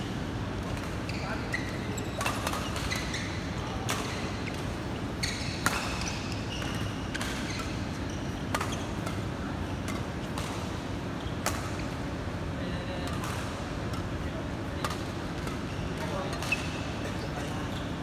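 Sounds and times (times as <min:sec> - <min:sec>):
court shoes squeaking: 0:00.0 - 0:12.2, 0:13.1 - 0:18.0
sports hall hum: 0:00.0 - 0:18.0.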